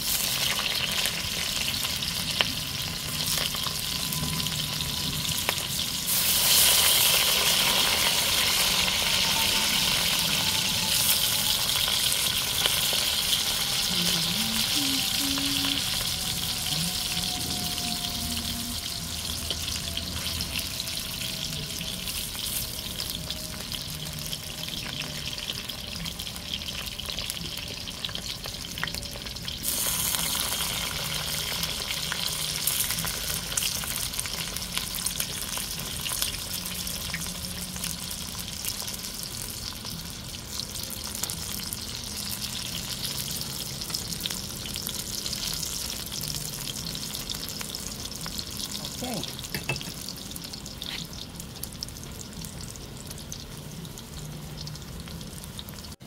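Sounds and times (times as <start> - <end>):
food frying in hot oil: 0.0 - 56.0.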